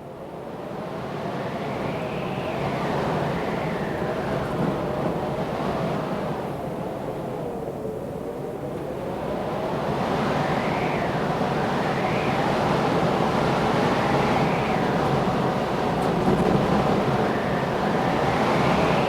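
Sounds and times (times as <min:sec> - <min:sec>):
wind gusts: 0:00.6 - 0:19.0.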